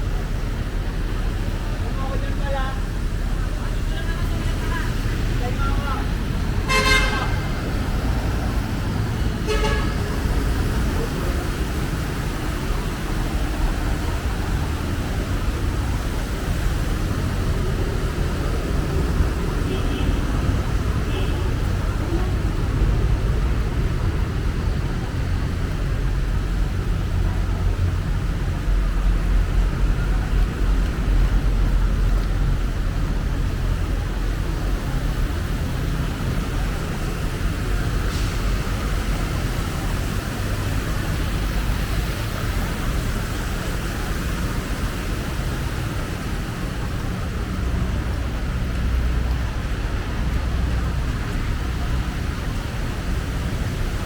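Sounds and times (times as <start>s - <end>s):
rumble of city traffic: 0.0s - 54.0s.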